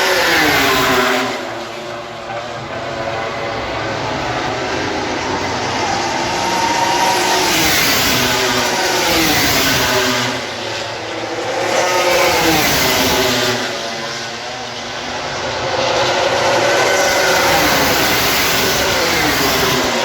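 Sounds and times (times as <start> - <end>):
racing motorcycles passing: 0.0 - 20.0.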